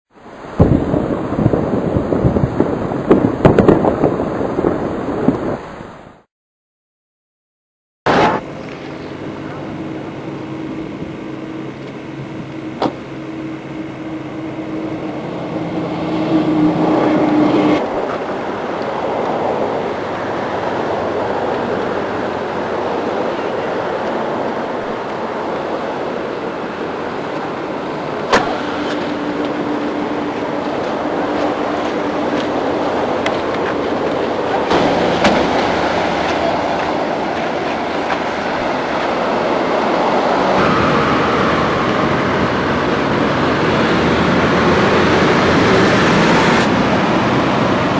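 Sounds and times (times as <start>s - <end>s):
vehicle engine hum: 0.2s - 6.2s, 8.4s - 47.9s
rushing road noise: 0.2s - 6.3s, 8.1s - 47.9s.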